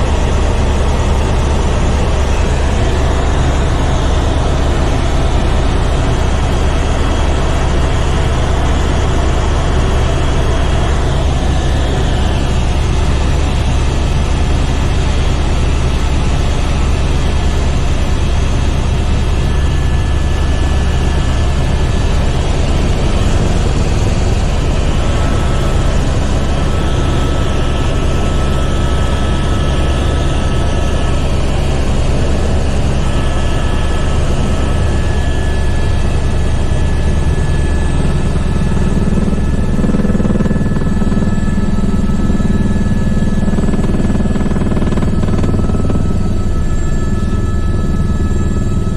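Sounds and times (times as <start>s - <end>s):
helicopter cabin drone: 0.0s - 48.9s.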